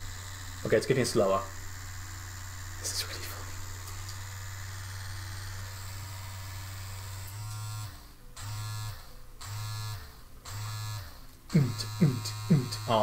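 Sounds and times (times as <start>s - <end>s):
massager vibrating buzz: 0.0s - 13.0s.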